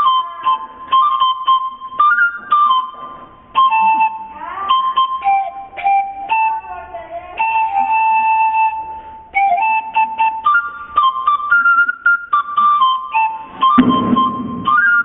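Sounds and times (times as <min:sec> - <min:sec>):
panpipe melody: 0:00.0 - 0:15.0.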